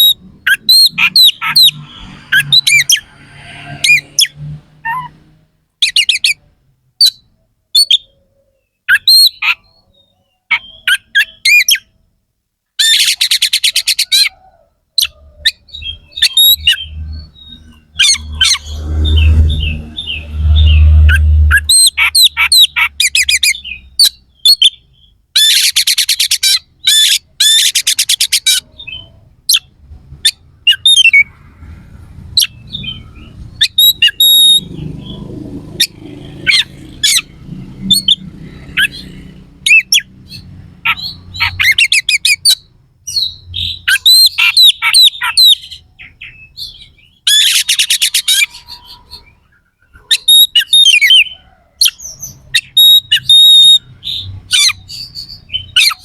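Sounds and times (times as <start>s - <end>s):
songbird singing in bursts: 0.0s - 12.0s, 15.0s - 31.5s, 32.1s - 56.0s.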